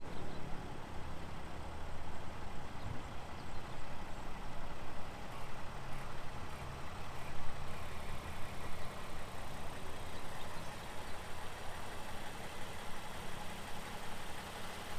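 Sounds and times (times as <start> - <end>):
vehicle engine idling: 0.1 - 14.9.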